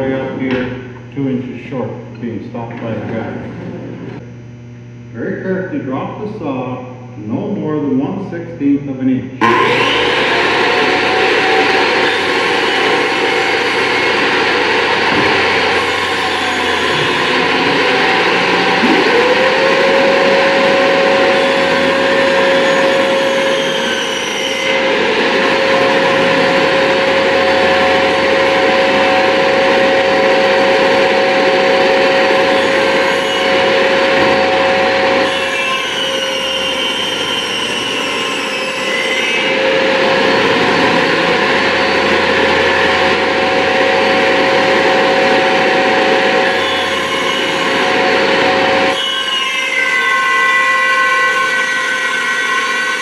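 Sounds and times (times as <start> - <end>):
circular saw cutting wood: 9.4 - 53.0.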